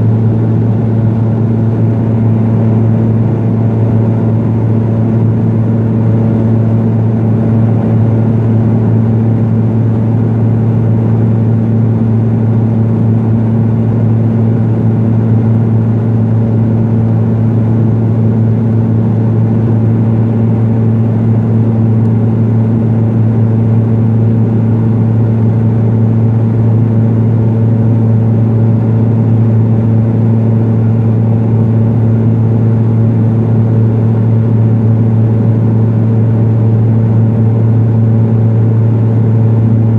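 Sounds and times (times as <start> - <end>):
turboprop engine drone in cabin: 0.0 - 39.9.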